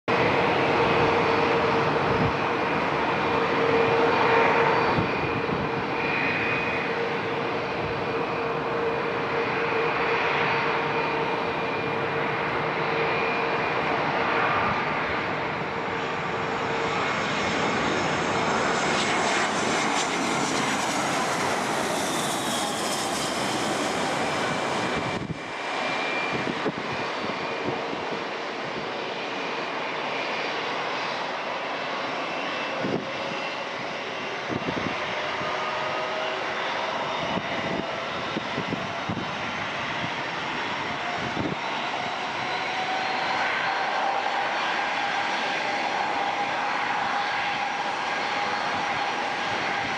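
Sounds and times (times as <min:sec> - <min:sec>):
jet engines rushing with whine: 0:00.1 - 0:49.9.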